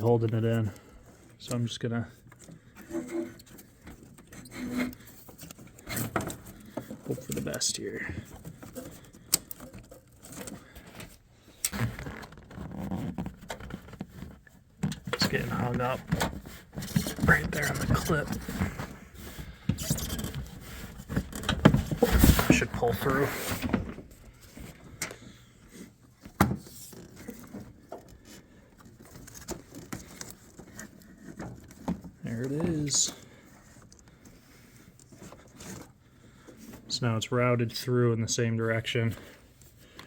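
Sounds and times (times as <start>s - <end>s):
rubber hose rubbing and scraping: 0.0s - 37.2s.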